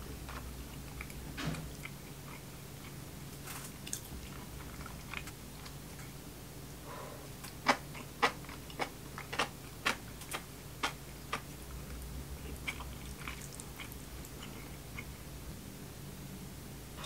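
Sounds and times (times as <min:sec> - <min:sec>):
chewing crunchy food: 0:00.0 - 0:06.2, 0:07.4 - 0:15.3.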